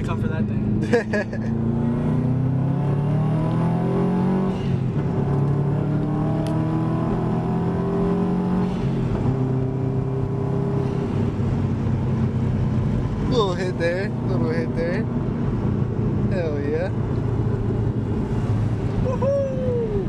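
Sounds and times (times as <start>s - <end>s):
car engine accelerating: 0.0s - 19.8s.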